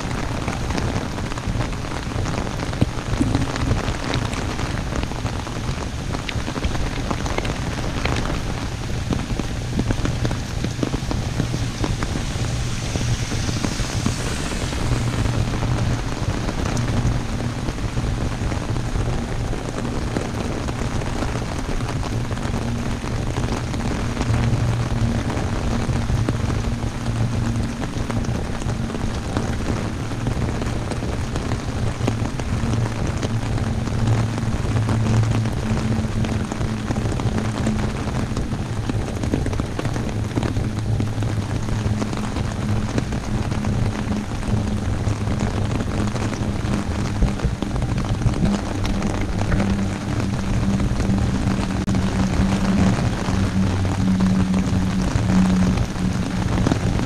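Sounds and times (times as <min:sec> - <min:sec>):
heavy rain on an umbrella: 0:00.0 - 0:57.0
low steady hum: 0:00.0 - 0:57.0.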